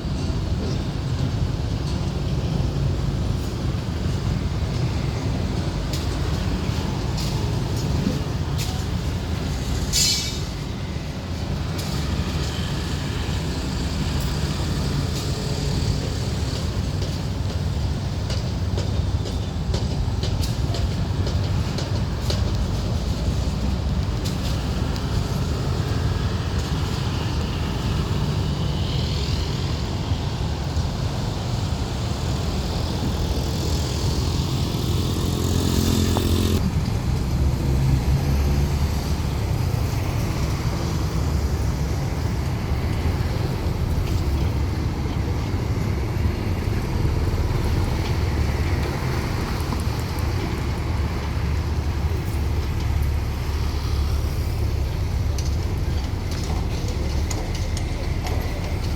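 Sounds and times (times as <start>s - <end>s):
heavy machinery diesel engines: 0.0s - 58.9s.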